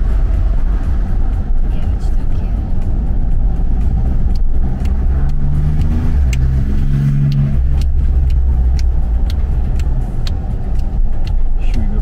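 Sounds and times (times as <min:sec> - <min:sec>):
car engine and road rumble: 0:00.0 - 0:12.0
engine hum: 0:00.0 - 0:12.0.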